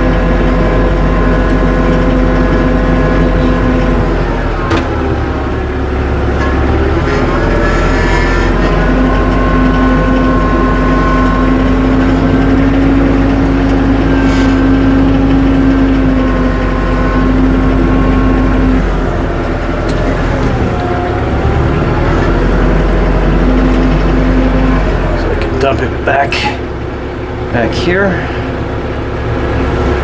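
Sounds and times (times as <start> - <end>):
steady whine: 0.0 - 30.0
tractor engine running: 0.0 - 30.0.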